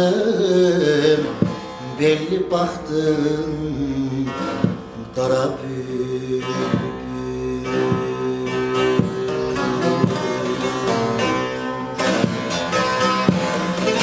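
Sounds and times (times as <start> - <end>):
saz strummed with plectrum: 0.0 - 14.0.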